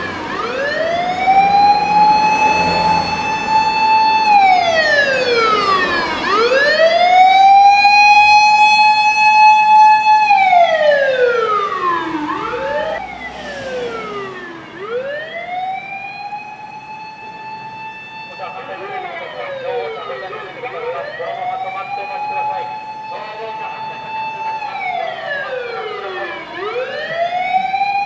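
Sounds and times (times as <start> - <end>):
fire truck siren wailing: 0.0 - 28.0
second siren sweeping: 0.0 - 28.0.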